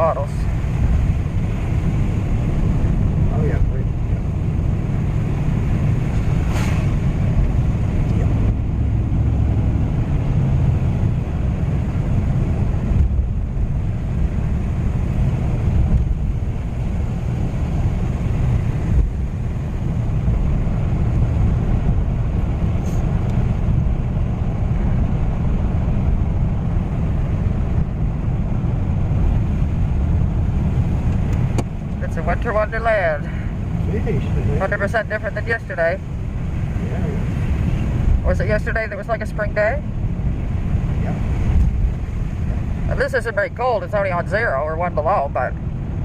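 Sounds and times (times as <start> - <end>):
car engine rumble: 0.0 - 46.0
tyres on road: 0.0 - 46.0.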